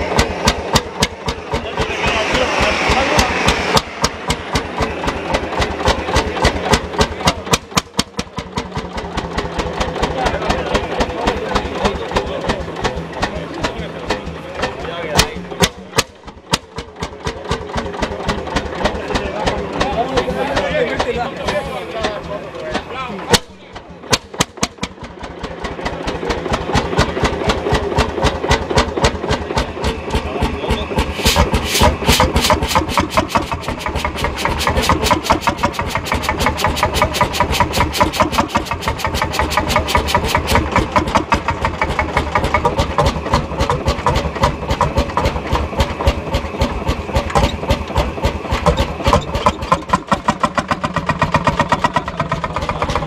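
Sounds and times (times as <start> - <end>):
tractor engine starting and running: 0.0 - 53.0.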